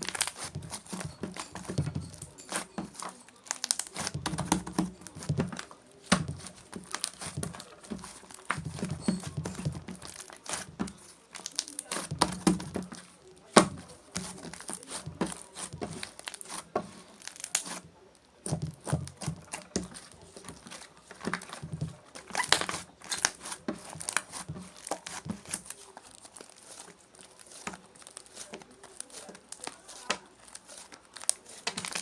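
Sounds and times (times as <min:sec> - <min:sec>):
slime squishing: 0:00.0 - 0:32.0.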